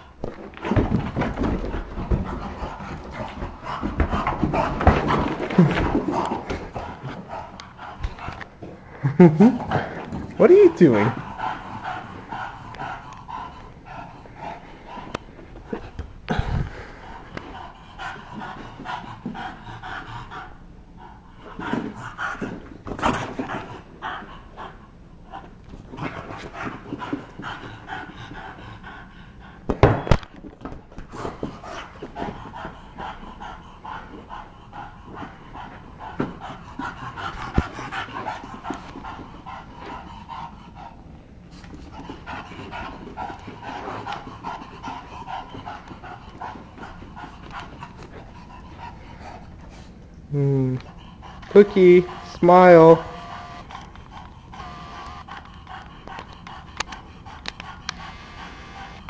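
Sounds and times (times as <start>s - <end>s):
dog panting hard: 0.0s - 29.9s, 30.9s - 59.0s.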